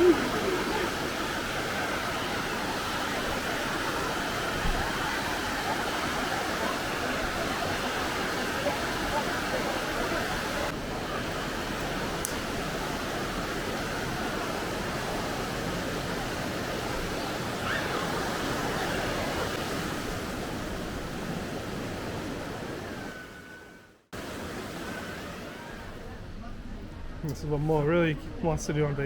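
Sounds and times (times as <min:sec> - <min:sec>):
river water rushing: 0:00.0 - 0:23.6, 0:24.2 - 0:26.0.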